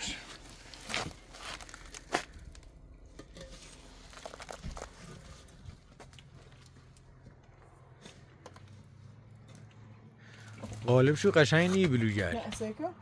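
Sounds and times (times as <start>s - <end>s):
handling scrapes and knocks: 0.0s - 10.9s.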